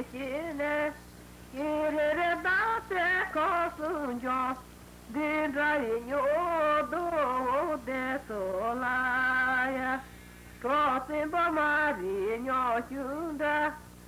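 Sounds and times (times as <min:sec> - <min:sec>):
person singing unaccompanied: 0:00.0 - 0:14.0.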